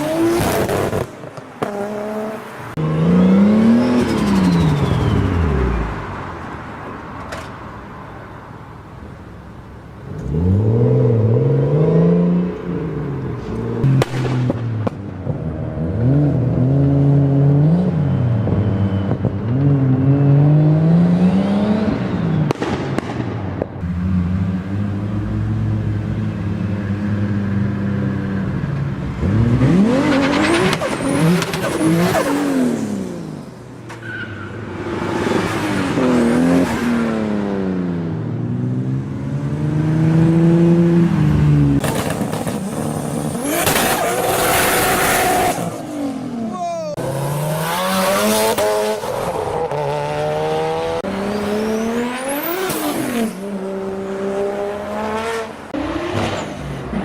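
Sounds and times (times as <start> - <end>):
car engines revving: 0.0 - 8.0, 8.8 - 57.0.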